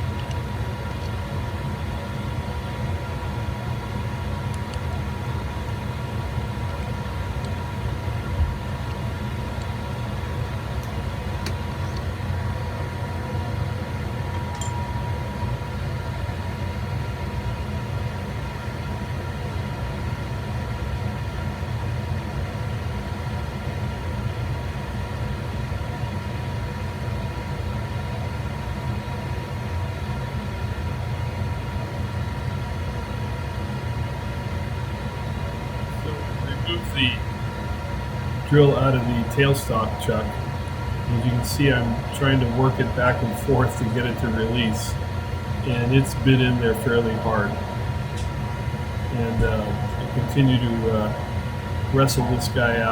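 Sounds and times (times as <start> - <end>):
low machinery hum: 0.0 - 52.9
thin steady whine: 0.0 - 52.9.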